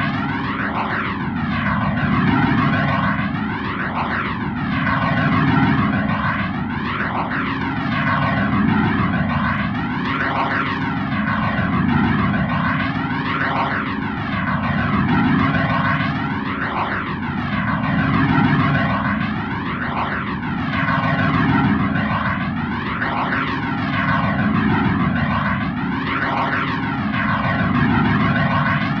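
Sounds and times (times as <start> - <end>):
droning noise with flanger sweep: 0.0 - 29.0.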